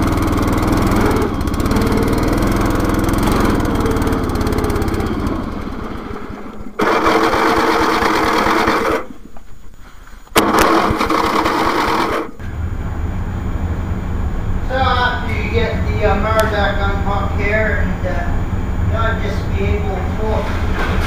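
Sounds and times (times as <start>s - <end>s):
riding lawn mower engine: 0.0s - 21.0s.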